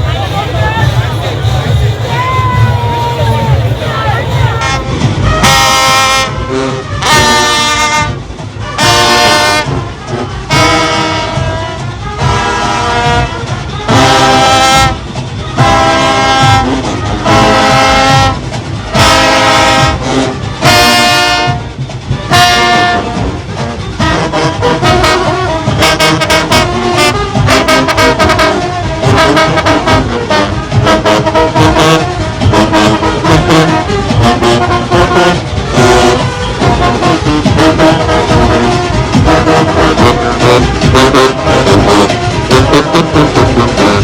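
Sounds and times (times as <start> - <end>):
steady drumming: 0.0 - 5.9, 8.3 - 44.0
brass horns playing riff: 0.0 - 44.0.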